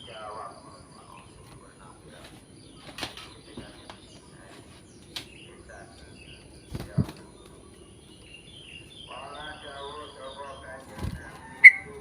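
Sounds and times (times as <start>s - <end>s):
faint bird chirps: 0.0s - 12.0s
outdoor background noise: 0.0s - 12.0s.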